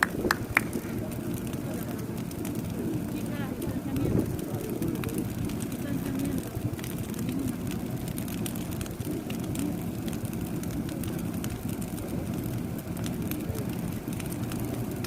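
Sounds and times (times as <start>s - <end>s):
bonfire crackling and popping: 0.0s - 15.0s
low fire rumble: 0.0s - 15.0s.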